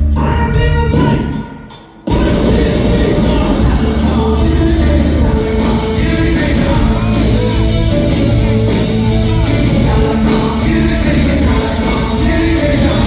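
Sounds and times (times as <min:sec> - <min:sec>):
live rock band: 0:00.0 - 0:13.0
person singing: 0:02.1 - 0:13.0.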